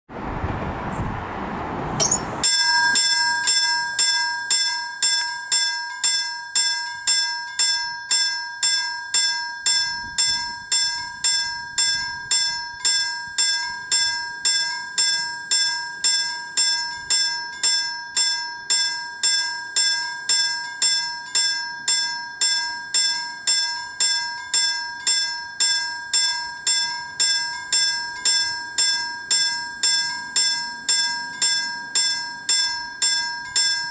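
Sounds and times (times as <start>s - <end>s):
level crossing warning bell: 2.0s - 33.9s.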